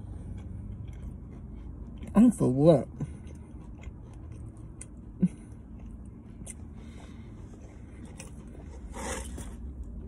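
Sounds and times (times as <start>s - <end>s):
low steady hum: 0.0s - 10.0s
person chewing fried food: 0.0s - 10.0s.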